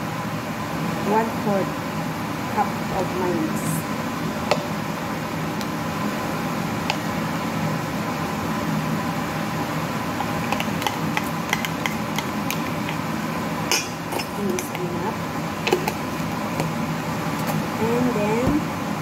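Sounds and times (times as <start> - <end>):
kitchen appliance motor hum: 2.8 - 19.0.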